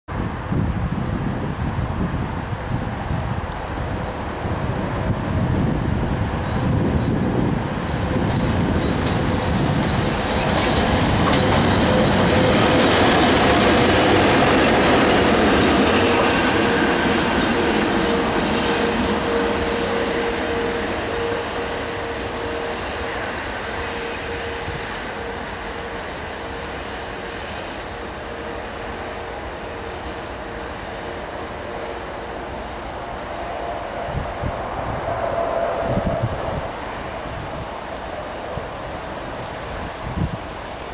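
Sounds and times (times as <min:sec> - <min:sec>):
steady whine: 0:01.0 - 0:40.9
train wheels clacking on rails: 0:06.4 - 0:40.9.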